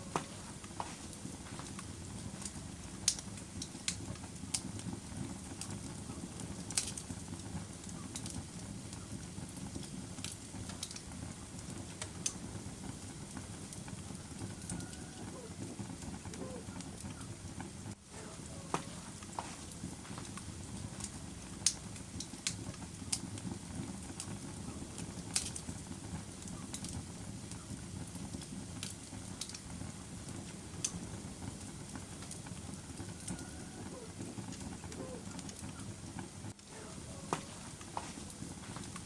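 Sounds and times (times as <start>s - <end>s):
fire crackles and pops: 0.0s - 39.0s
fire flames rumbling: 0.0s - 39.0s.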